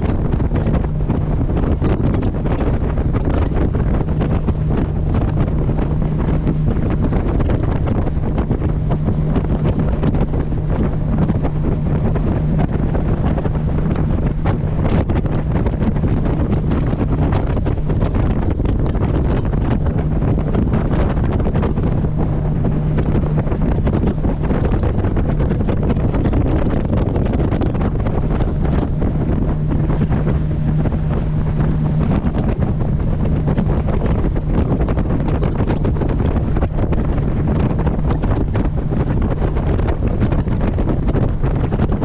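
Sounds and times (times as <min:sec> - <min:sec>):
low engine drone: 0:00.0 - 0:42.0
water rushing past hull: 0:00.0 - 0:42.0
wind buffeting microphone: 0:00.0 - 0:42.0.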